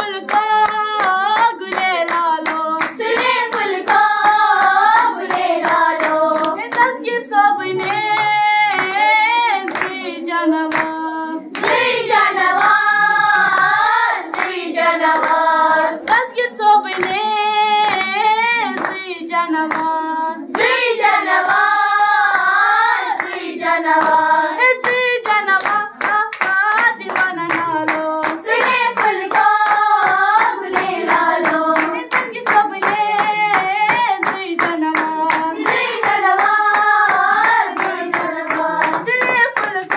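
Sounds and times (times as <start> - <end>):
girls singing in unison: 0.0 - 39.9
rhythmic hand claps: 0.0 - 39.9.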